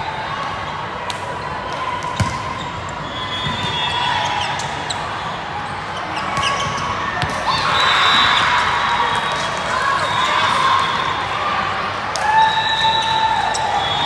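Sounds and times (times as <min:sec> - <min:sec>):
hubbub of voices in a hall: 0:00.0 - 0:14.0.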